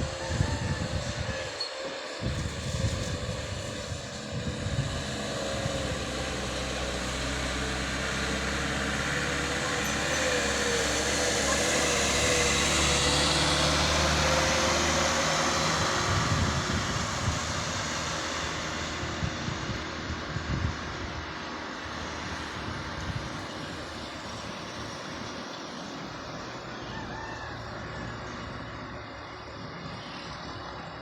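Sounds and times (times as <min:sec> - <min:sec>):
diesel engine passing: 0:02.2 - 0:31.0.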